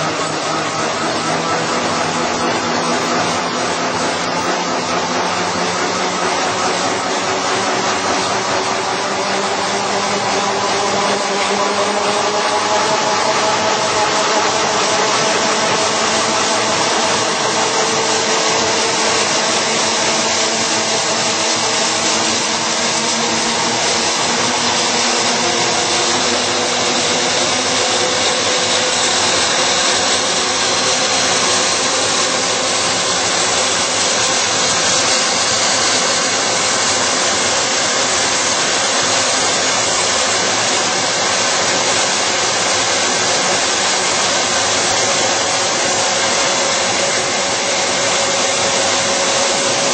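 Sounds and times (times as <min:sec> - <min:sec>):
steel strip slitting machine running: 0:00.0 - 0:49.9.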